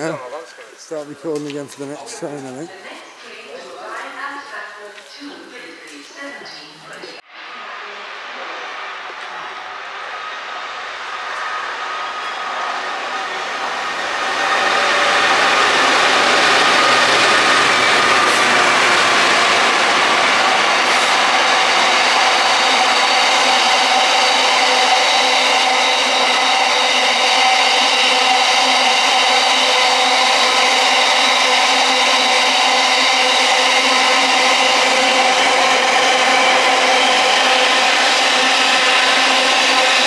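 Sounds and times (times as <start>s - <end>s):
freight train rolling: 0.0s - 40.0s.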